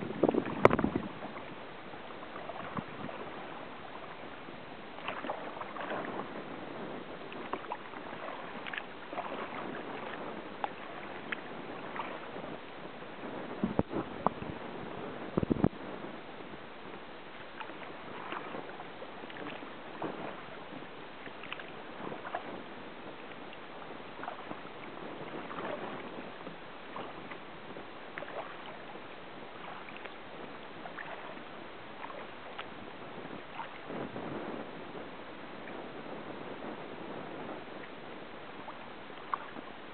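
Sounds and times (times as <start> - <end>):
paddle swishing through water: 0.0 - 39.9.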